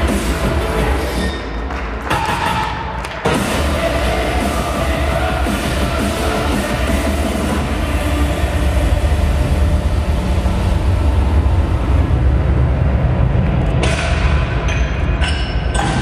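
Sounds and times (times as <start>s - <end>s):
bass-heavy music over speakers: 0.0s - 16.0s.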